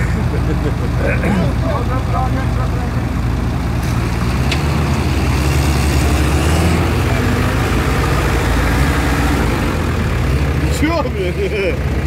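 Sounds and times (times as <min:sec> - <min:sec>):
vehicle engine revving: 0:00.0 - 0:11.8.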